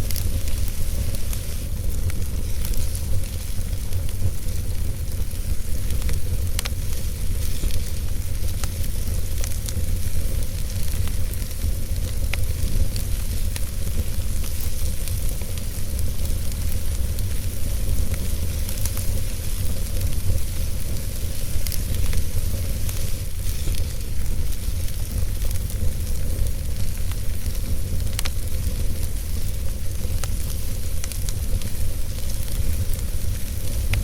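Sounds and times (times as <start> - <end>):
fire crackles and pops: 0.0 - 34.0
wood fire hissing: 0.0 - 34.0.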